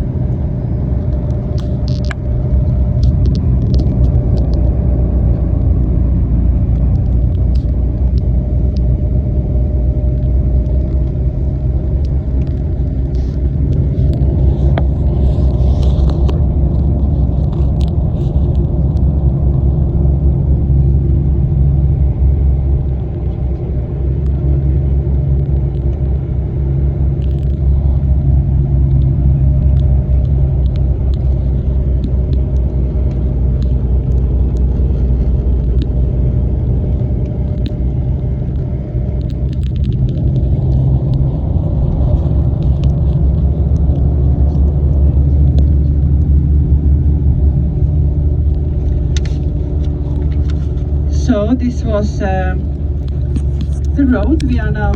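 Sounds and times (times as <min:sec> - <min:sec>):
bus engine and road rumble: 0:00.0 - 0:54.9
small rattles and clicks: 0:01.0 - 0:05.9, 0:06.6 - 0:09.0, 0:09.7 - 0:19.8, 0:27.1 - 0:54.9.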